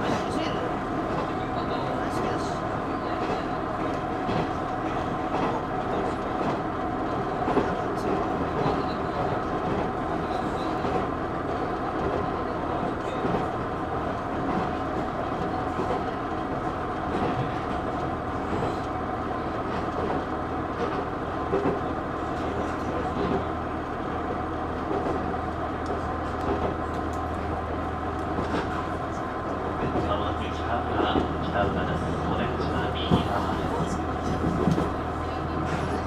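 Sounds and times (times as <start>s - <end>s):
railcar engine drone: 0.0s - 36.0s.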